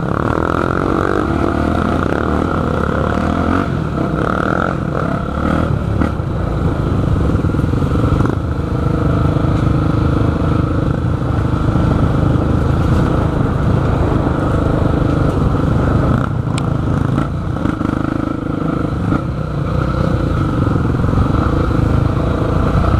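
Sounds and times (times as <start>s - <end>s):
dirt bike engine running: 0.0s - 22.9s.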